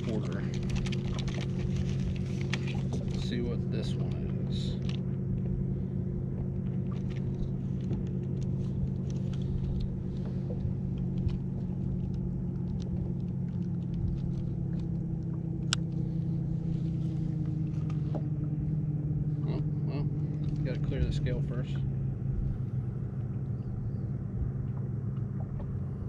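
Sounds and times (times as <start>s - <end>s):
boat motor humming: 0.0s - 26.0s
low rumble: 0.0s - 26.0s.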